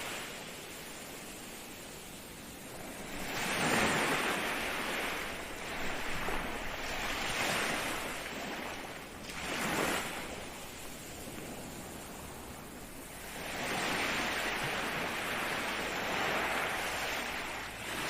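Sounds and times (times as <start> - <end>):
ocean waves breaking on shore: 0.0 - 18.0.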